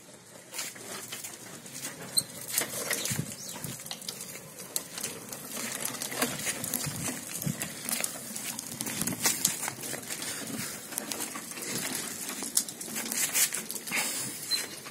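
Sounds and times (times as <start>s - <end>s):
tricycle rolling on rough concrete: 0.0s - 14.9s.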